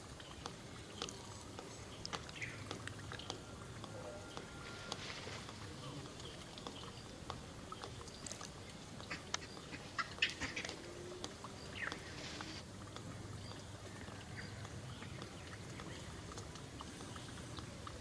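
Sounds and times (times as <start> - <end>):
faint clicks: 0.3 - 18.0.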